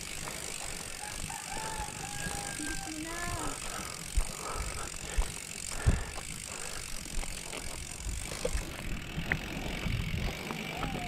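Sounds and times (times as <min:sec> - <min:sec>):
bike rattles and knocks: 0:00.0 - 0:11.0
bike tyres rolling on concrete: 0:00.0 - 0:11.0.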